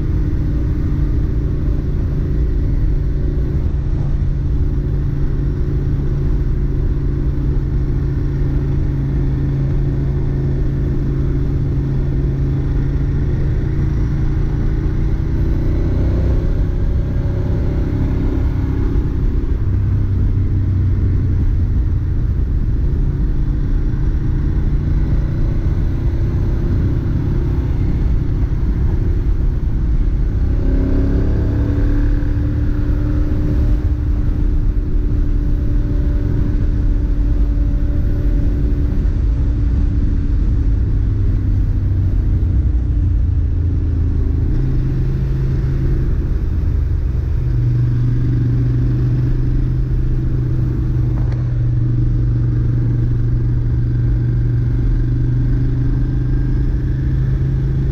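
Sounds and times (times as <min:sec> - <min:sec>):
motorcycle engine while riding: 0:00.0 - 0:57.9.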